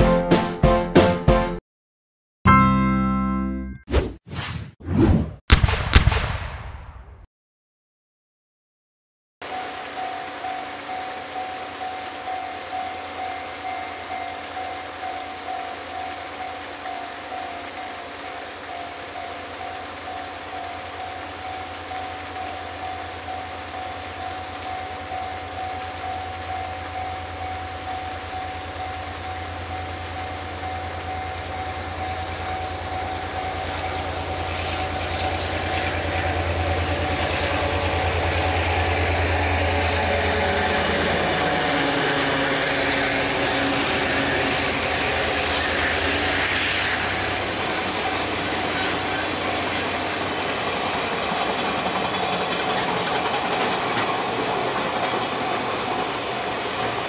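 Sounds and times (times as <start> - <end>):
diesel locomotive engine drone: 9.4 - 57.0
freight wagons rumbling on rails: 9.4 - 57.0
paddlewheel aerators splashing: 9.4 - 57.0.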